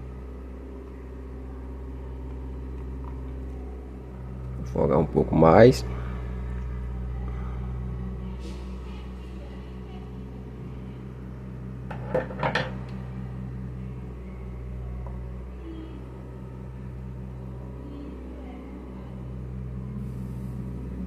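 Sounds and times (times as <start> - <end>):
steady electric hum: 0.0 - 21.0.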